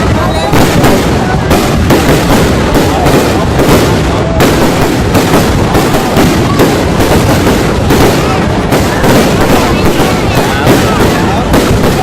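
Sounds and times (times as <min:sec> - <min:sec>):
fireworks bursts and crackles: 0:00.0 - 0:12.0.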